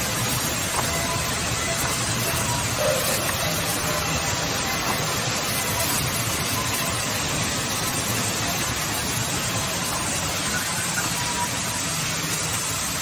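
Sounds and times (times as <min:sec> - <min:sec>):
sawmill machine running: 0:00.0 - 0:13.0.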